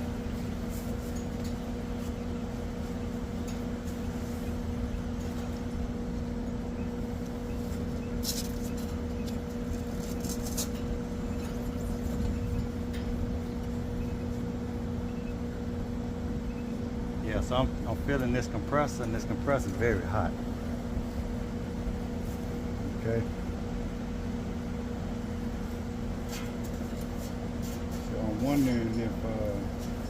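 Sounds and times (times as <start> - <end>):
air conditioner unit humming: 0.0 - 30.0.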